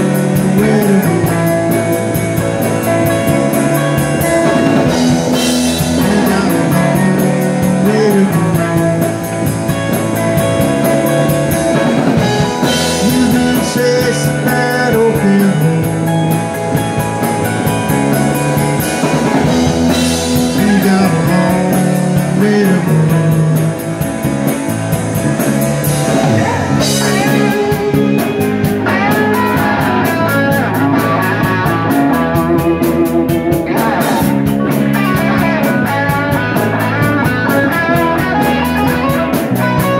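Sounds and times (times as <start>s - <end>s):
cymbals keeping fast beat: 0.0s - 39.9s
drum kit: 0.0s - 39.9s
electric bass: 0.0s - 39.9s
electric guitars: 0.0s - 39.9s.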